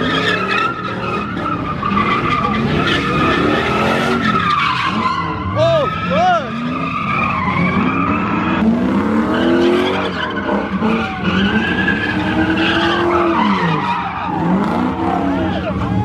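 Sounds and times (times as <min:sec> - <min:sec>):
car engine revving: 0:00.0 - 0:16.0
tyres squealing on asphalt: 0:00.0 - 0:16.0.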